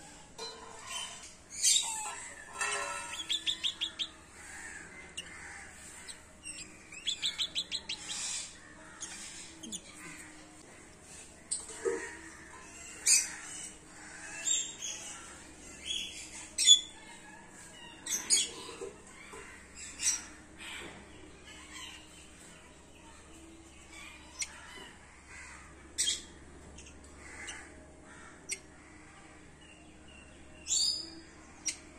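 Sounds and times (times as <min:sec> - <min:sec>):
parrots chirping and squawking: 0:00.0 - 0:22.6, 0:23.4 - 0:28.9.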